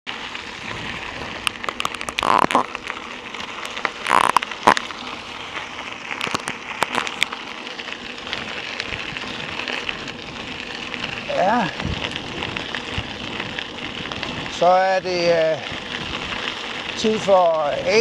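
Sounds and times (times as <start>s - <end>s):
bike tyres rolling on gravel: 0.1s - 18.0s.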